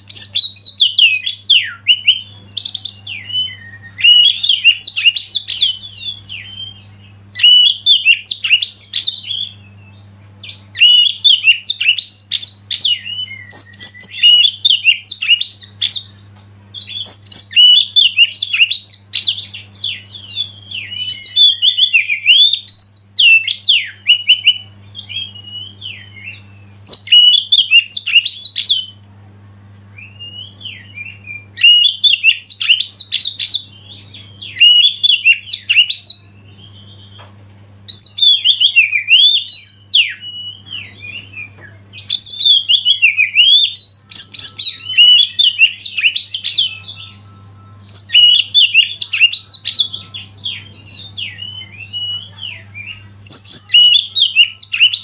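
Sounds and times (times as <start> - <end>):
bird singing whistles and chirps: 0.0 - 29.0, 29.8 - 55.0.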